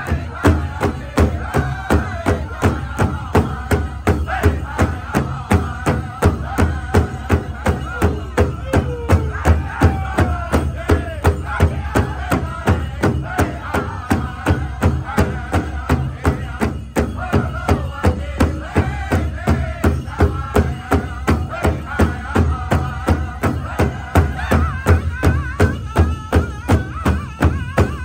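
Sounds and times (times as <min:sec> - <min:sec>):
big drum beating: 0:00.0 - 0:28.0
drum group singing: 0:00.0 - 0:28.0.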